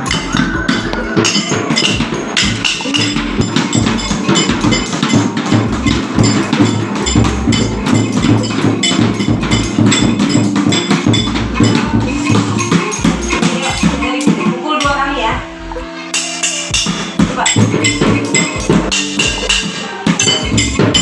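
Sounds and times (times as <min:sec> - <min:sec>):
children playing percussion instruments: 0:00.0 - 0:21.0.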